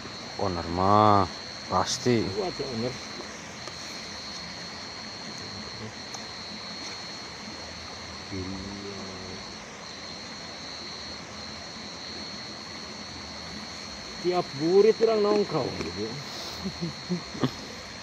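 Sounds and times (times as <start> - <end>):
high-pitched whine: 0.0 - 18.0.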